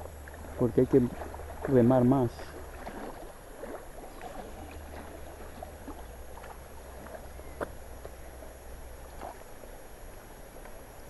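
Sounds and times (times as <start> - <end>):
low steady rumble: 0.0 - 11.0
water lapping against raft: 0.0 - 11.0.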